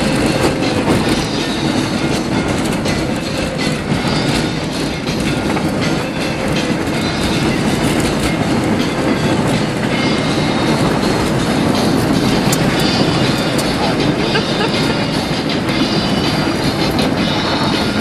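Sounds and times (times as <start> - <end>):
car interior rattles and knocks: 0.0 - 18.0
tyres rumbling on dirt road: 0.0 - 18.0.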